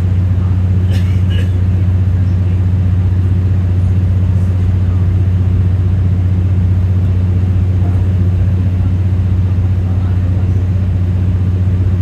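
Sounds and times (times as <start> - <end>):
deep diesel engine drone: 0.0 - 12.0.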